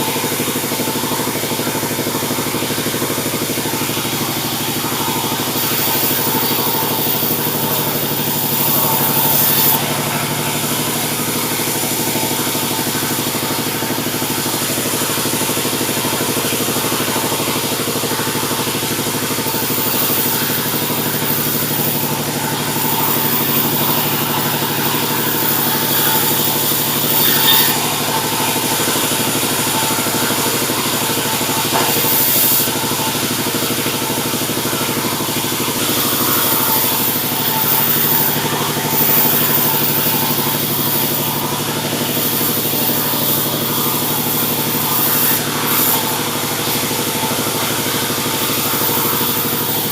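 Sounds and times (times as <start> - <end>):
high saw hiss: 0.0 - 49.9
sawmill machinery drone: 0.0 - 49.9.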